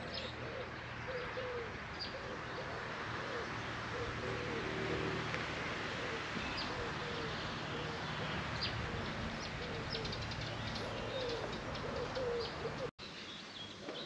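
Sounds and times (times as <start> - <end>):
pigeons cooing: 0.0 - 12.9
songbirds chirping: 0.0 - 14.0
steady outdoor hiss: 0.0 - 14.0.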